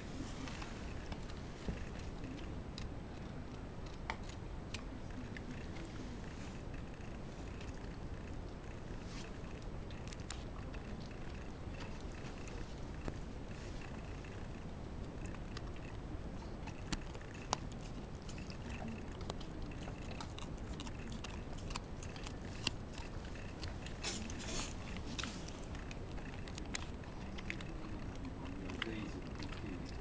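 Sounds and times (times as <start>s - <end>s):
dog gnawing a hard chew: 0.4s - 30.0s.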